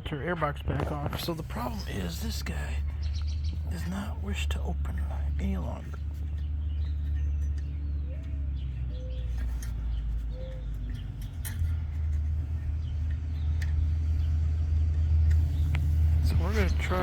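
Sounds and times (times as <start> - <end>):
soft bird calls: 0.0 - 17.0
truck engine rumble: 0.0 - 17.0.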